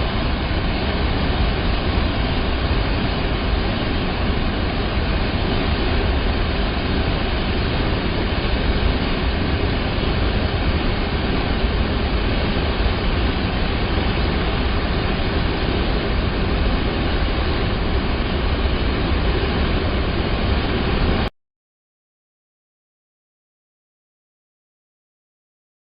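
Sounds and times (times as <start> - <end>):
rushing water: 0.0 - 21.3.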